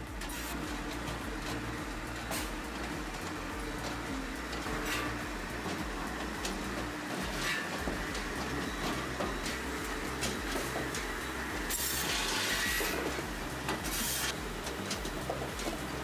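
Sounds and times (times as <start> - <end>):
firewood processor running: 0.0 - 16.0
hissing bursts: 0.0 - 16.0.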